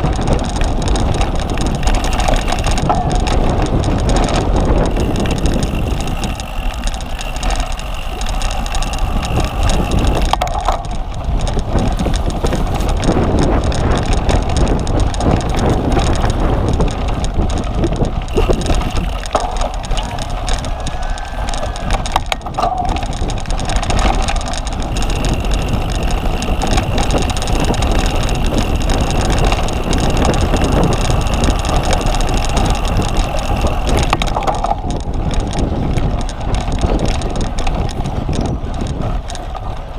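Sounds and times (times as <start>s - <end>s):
tyres rumbling on rough ground: 0.0s - 39.9s
wind buffeting microphone: 0.0s - 39.9s.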